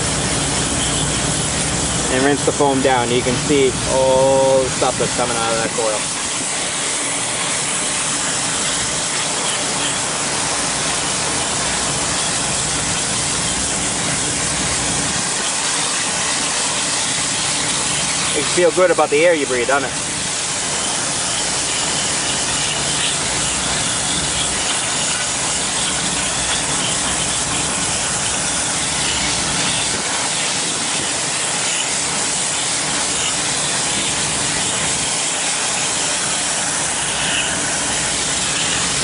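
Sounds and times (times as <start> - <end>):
hose spraying water: 0.0 - 39.0.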